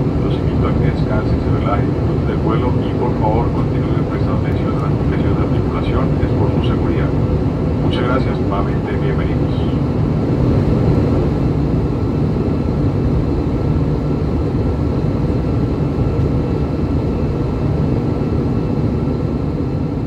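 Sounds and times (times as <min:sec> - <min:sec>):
airplane cabin engine rush: 0:00.0 - 0:20.0
faint steady whine: 0:00.0 - 0:20.0.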